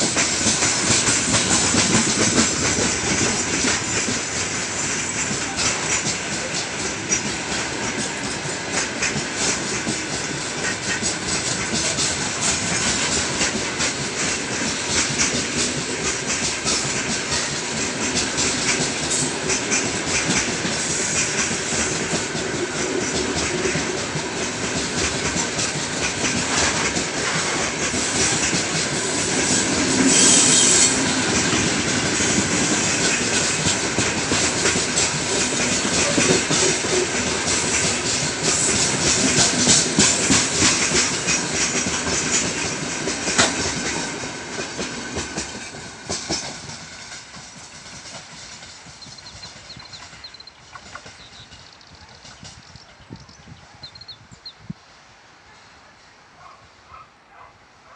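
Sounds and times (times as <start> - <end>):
wheels clattering over rail joints: 0.0 - 52.9
freight train rumbling: 0.0 - 57.9.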